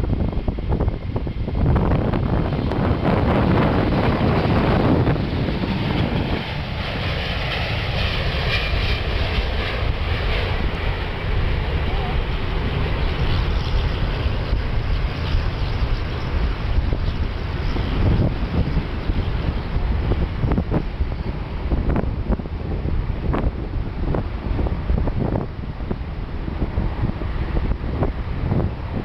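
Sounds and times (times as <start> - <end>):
high engine whine: 0.0 - 29.0
jet engines running: 0.0 - 29.0
wind buffeting on microphone: 0.0 - 29.0.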